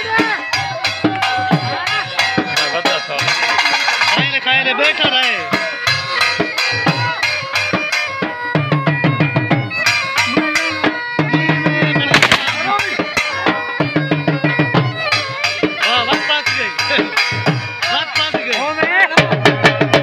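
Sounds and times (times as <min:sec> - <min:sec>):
bagpipe playing folk tune: 0:00.0 - 0:18.4
drums beaten with sticks: 0:00.0 - 0:20.0.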